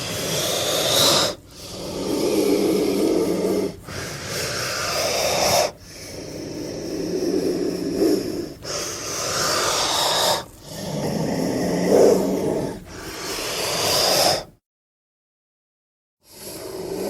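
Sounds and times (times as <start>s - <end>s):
snake hissing: 0.0s - 14.5s, 16.2s - 17.0s.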